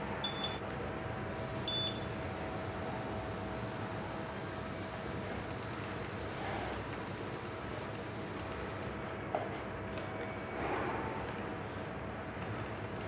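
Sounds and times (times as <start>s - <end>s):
desk fan whirring: 0.0s - 13.0s.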